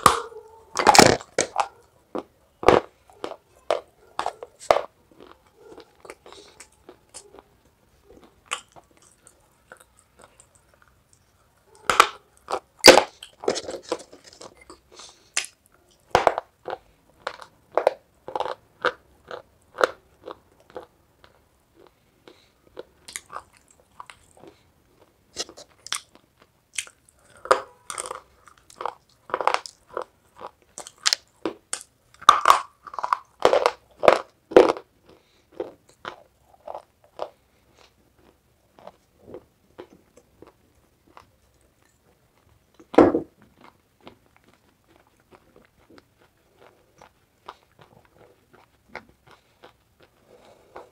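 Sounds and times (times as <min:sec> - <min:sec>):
crunching and chewing clay: 0:00.0 - 0:50.9.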